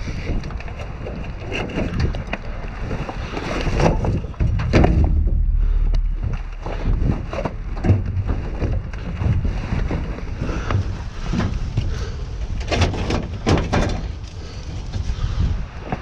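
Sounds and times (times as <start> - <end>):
crackles of brittle debris: 0.0 - 16.0
wind buffeting microphone: 0.0 - 16.0.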